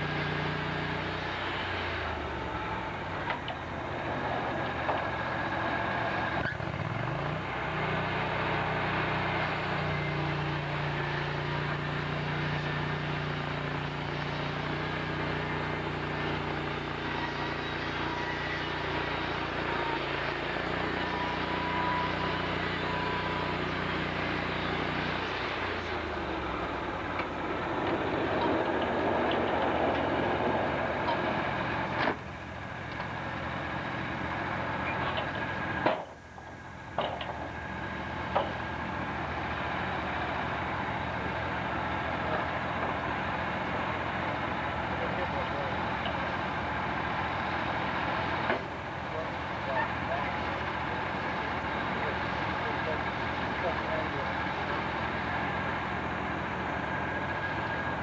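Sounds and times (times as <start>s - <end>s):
rough mechanical noise: 0.0s - 58.0s.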